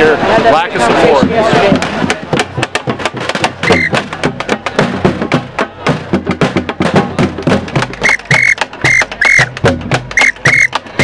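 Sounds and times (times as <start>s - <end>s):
rhythmic drum percussion: 0.9s - 11.0s.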